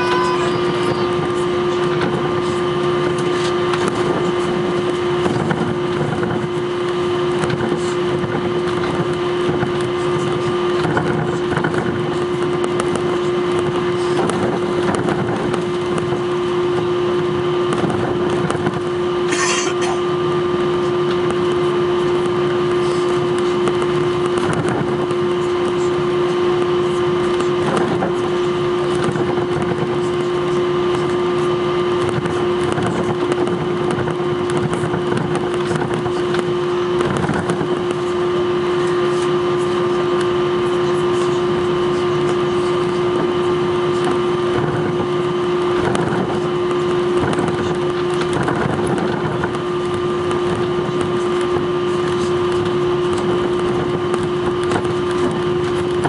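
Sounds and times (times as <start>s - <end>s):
aircraft engine drone: 0.0s - 56.0s
constant hum: 0.0s - 56.0s.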